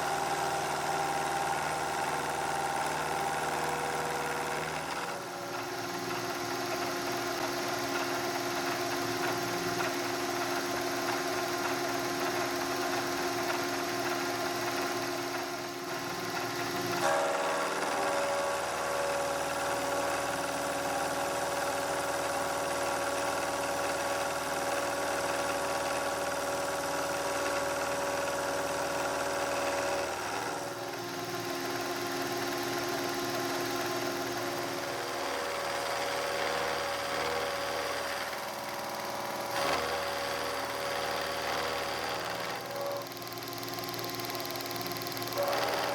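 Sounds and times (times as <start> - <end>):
metal-cutting machine motor whine: 0.0 - 45.9.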